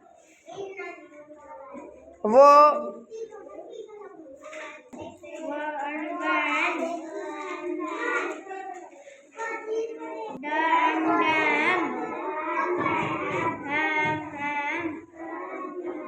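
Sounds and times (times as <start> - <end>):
children chanting words: 0.0 - 16.0.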